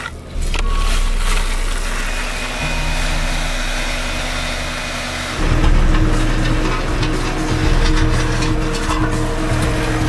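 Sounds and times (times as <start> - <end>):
machinery engine running: 0.2 - 10.0.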